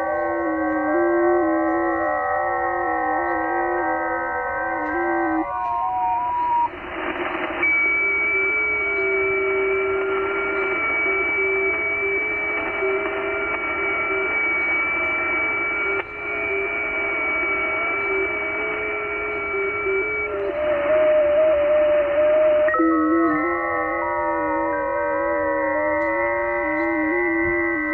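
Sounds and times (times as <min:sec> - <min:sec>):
digital signal tones hopping pitch: 0:00.0 - 0:06.7, 0:07.6 - 0:27.9
radio band hiss: 0:00.0 - 0:27.9.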